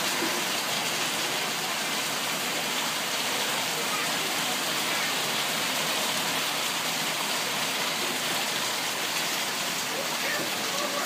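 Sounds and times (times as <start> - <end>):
rain pouring: 0.0 - 11.0.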